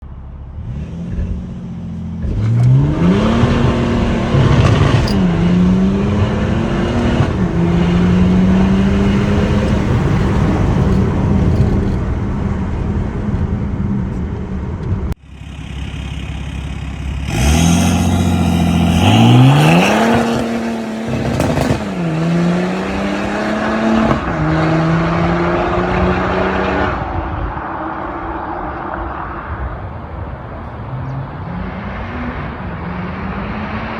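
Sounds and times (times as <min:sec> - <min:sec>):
diesel car engine accelerating: 0:00.0 - 0:33.9.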